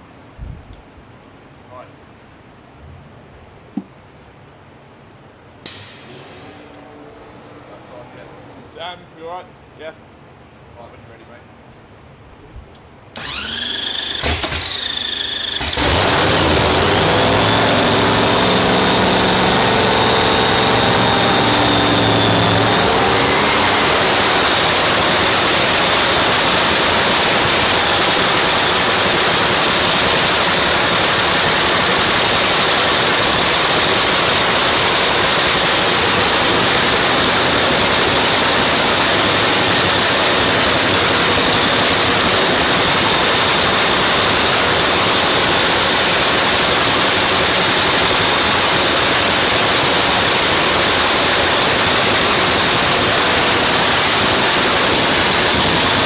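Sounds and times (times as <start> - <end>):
race car engine roaring: 5.7 - 9.2, 13.2 - 56.0.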